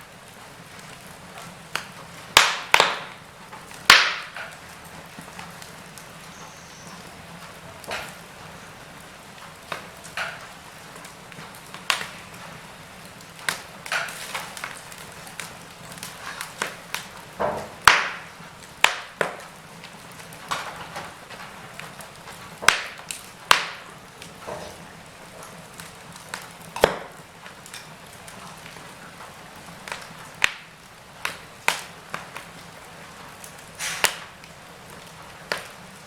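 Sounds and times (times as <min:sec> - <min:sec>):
wood fire crackling: 0:00.0 - 0:36.0
sharp pops of fire: 0:00.4 - 0:08.6, 0:09.4 - 0:36.0.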